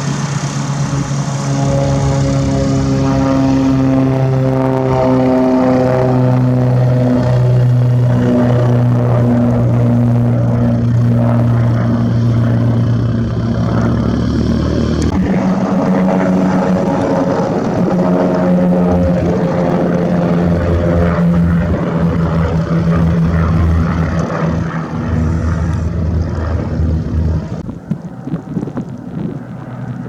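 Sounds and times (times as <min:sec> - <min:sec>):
propeller airplane engine drone: 0:00.0 - 0:30.0.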